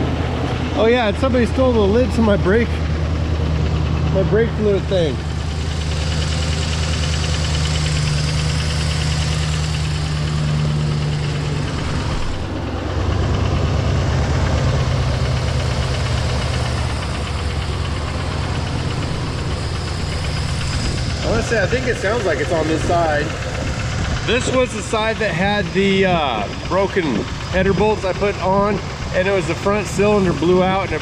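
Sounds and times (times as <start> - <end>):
truck engine idling with knock: 0.0 - 31.0.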